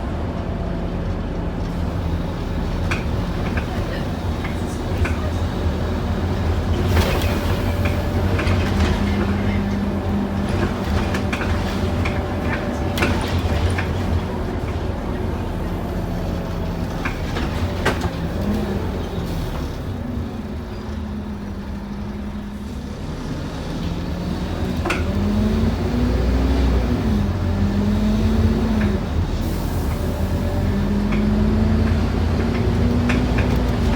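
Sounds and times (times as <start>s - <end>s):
bus diesel engine droning: 0.0s - 33.9s
road noise: 0.0s - 33.9s.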